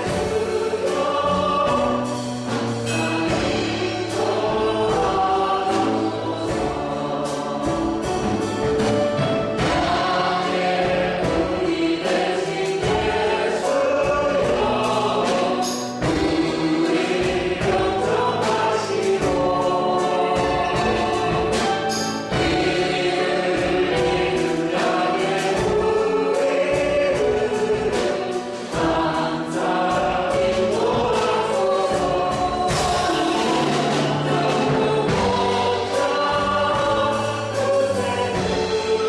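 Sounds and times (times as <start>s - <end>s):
band playing steady beat: 0.0s - 39.0s
group singing worship song: 0.0s - 39.0s.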